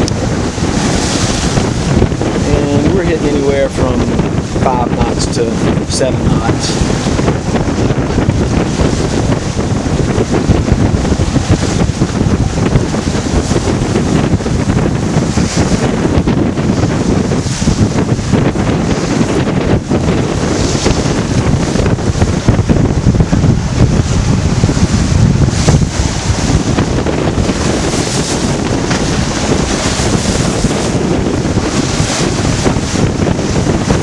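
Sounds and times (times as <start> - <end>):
water slapping boat hull: 0.0 - 34.0
wind buffeting microphone: 0.0 - 34.0.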